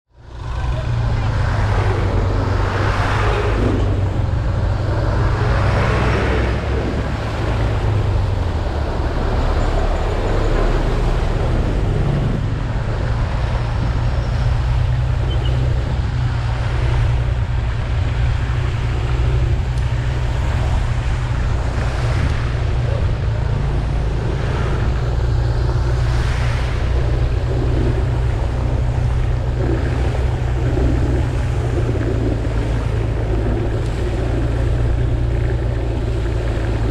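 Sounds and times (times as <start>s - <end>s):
wind and road noise: 0.1s - 36.9s
scooter engine hum: 0.2s - 36.9s.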